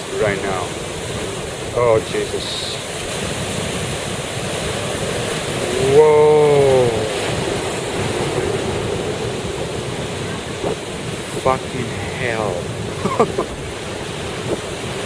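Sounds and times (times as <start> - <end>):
surf breaking: 0.0 - 15.0
wind on microphone: 0.0 - 15.0.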